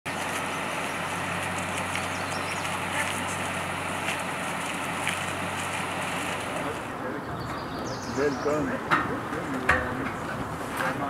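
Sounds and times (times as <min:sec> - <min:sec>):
truck engine idling: 0:00.1 - 0:11.0.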